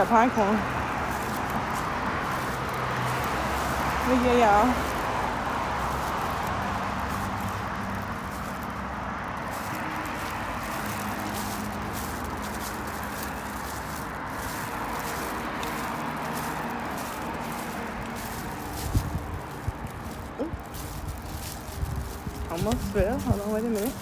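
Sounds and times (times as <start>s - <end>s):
faint low engine hum: 0.0s - 24.0s
road traffic rushing: 0.0s - 24.0s.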